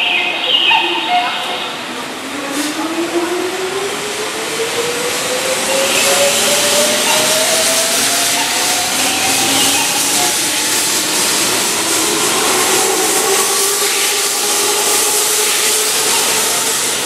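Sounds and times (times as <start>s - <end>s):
wheels rushing on rail: 0.0s - 17.0s.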